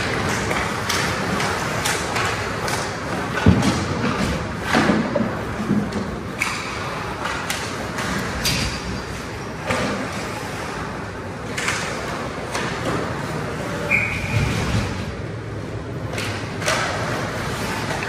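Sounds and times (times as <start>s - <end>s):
skates scraping ice: 0.0s - 18.0s
sticks and puck clacking: 0.0s - 18.0s.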